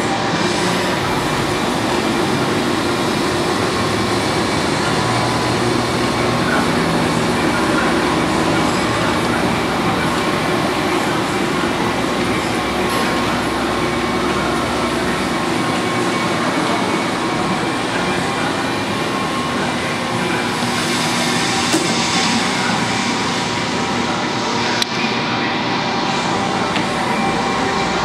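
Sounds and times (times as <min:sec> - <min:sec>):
lathe mechanical drone: 0:00.0 - 0:28.0.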